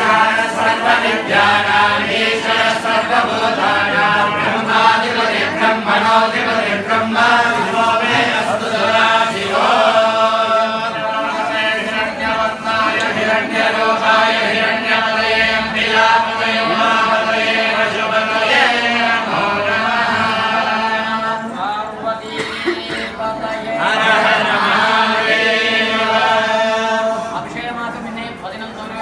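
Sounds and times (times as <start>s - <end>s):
men chanting in long held notes: 0.0s - 22.0s, 23.4s - 27.6s.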